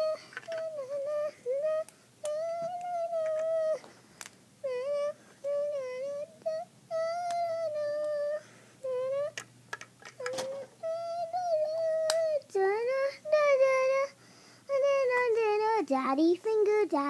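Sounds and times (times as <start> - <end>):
child singing wordless tune: 0.0 - 3.8, 4.6 - 9.4, 10.2 - 17.0.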